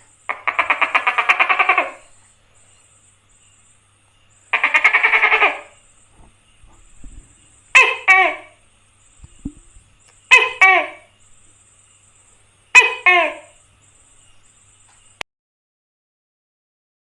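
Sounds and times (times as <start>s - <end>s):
gecko rattling calls: 0.0s - 15.2s.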